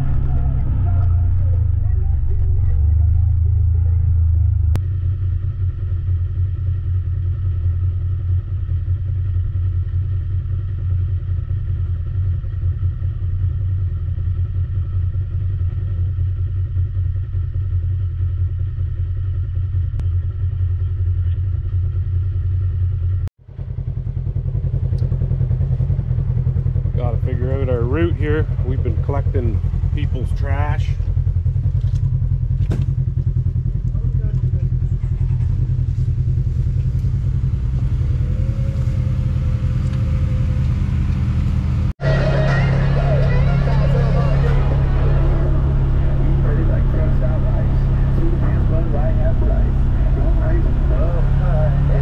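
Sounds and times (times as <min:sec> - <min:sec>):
utility vehicle engine droning: 0:00.0 - 0:52.0.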